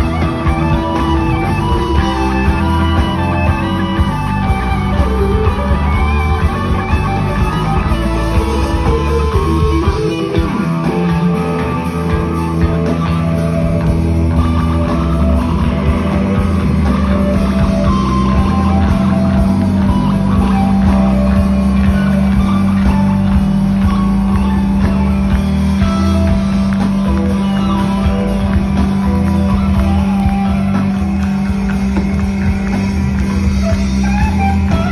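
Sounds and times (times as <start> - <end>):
bass guitar: 0.0 - 34.9
distorted electric guitar solo: 0.0 - 34.9
drums: 0.0 - 34.9.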